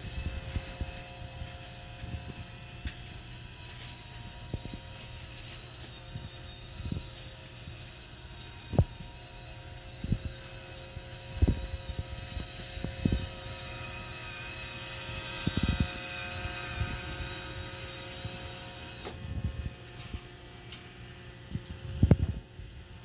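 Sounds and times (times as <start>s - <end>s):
robot vacuum motor whine: 0.0s - 23.0s.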